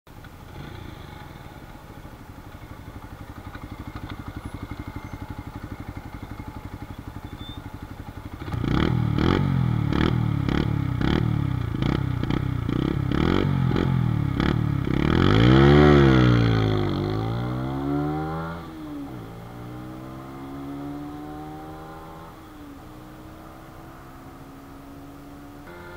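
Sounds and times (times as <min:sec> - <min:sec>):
motorcycle engine idling: 0:00.1 - 0:24.0
motorcycle throttle revs: 0:00.2 - 0:01.8, 0:03.1 - 0:25.9.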